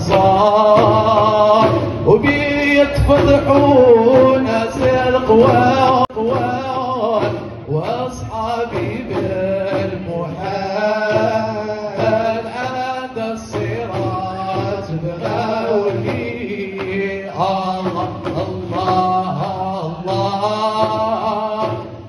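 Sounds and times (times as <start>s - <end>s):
drums: 0.0s - 22.0s
men chanting devotional song: 0.0s - 22.0s.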